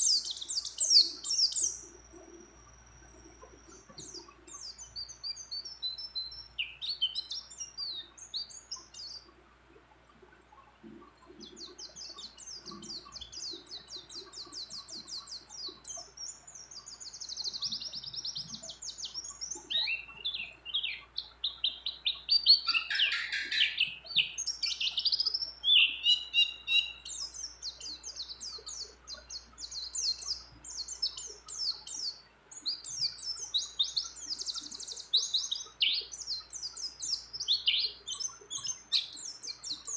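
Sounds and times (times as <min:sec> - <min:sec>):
white-eye singing twittering trills: 0:00.0 - 0:39.9.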